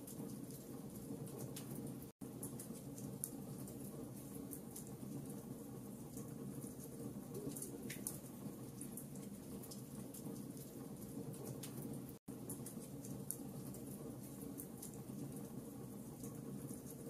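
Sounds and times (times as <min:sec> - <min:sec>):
low rumble of fire: 0:00.0 - 0:17.0.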